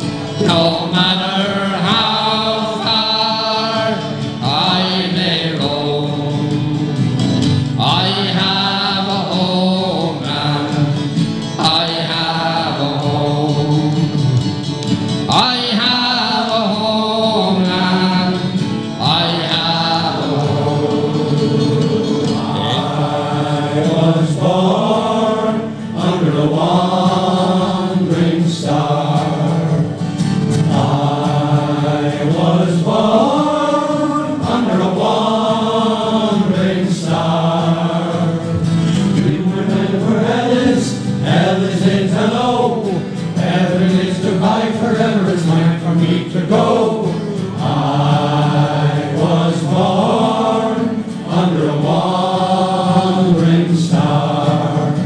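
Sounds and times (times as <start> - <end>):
men's choir singing: 0.0 - 55.0.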